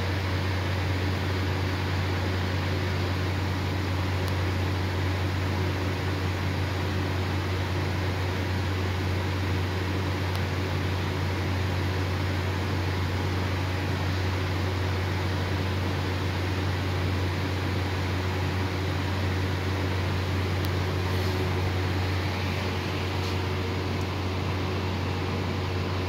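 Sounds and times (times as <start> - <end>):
industrial machine humming and whirring: 0.0 - 26.0.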